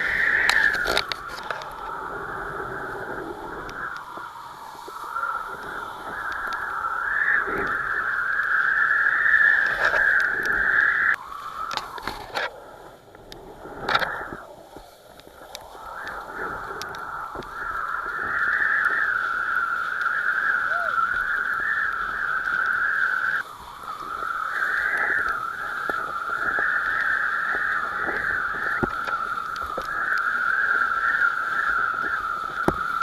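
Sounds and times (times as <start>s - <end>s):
rushing wind: 0.0s - 33.0s.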